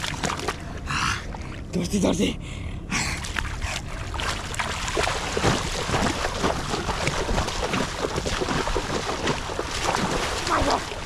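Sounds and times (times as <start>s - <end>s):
feet splashing through shallow water: 0.0s - 1.5s, 3.2s - 11.0s.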